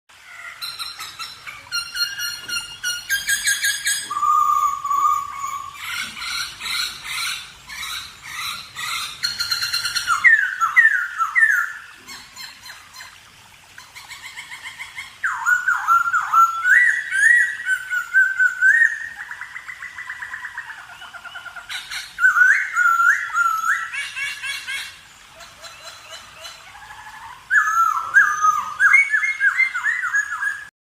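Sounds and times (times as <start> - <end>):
parrots calling: 0.2 - 13.2, 13.8 - 30.6.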